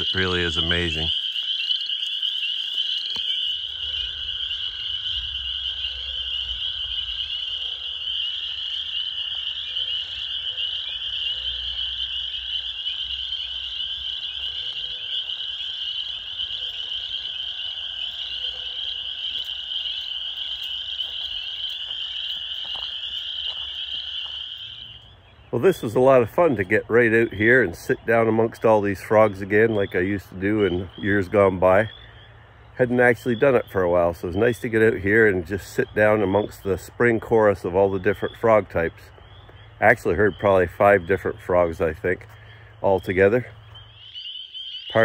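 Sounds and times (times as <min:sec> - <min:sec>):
frogs peeping in chorus: 0:00.0 - 0:45.0.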